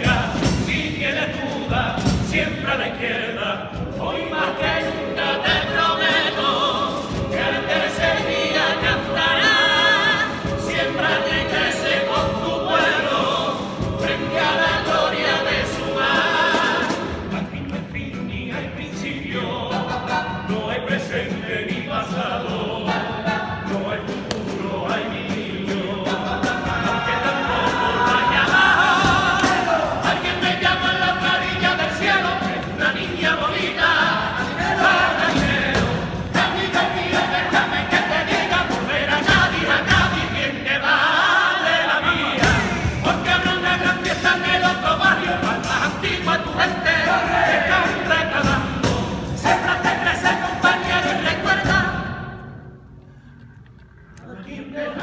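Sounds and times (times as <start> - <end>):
male chorus singing: 0.0 - 52.8, 54.2 - 55.0
rhythmic accompaniment: 0.0 - 52.9.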